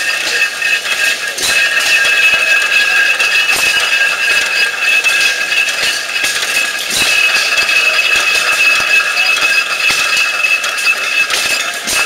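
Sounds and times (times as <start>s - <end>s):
machinery clatter: 0.0s - 12.0s.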